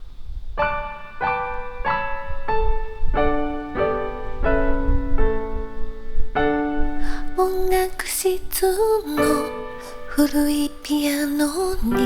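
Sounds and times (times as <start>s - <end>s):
slow piano melody: 0.6s - 12.0s.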